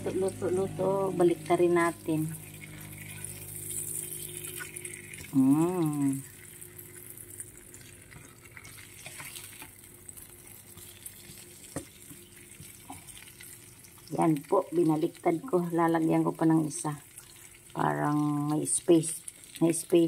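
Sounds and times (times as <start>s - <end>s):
ham sizzling in a frying pan: 0.0s - 20.0s
spatula turning food: 0.0s - 20.0s.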